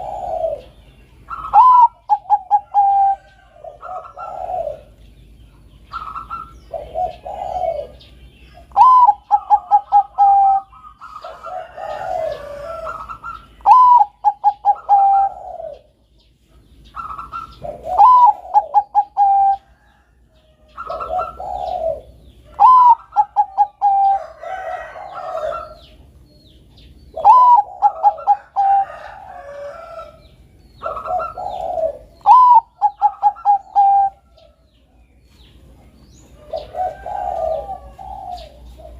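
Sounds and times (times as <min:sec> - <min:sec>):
dove cooing: 0:00.0 - 0:05.0, 0:05.8 - 0:26.2, 0:26.8 - 0:34.7, 0:35.4 - 0:38.9.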